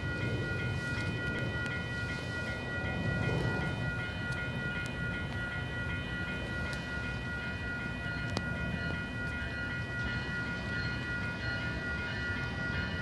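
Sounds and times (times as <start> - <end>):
level crossing warning bell: 0.0 - 13.0.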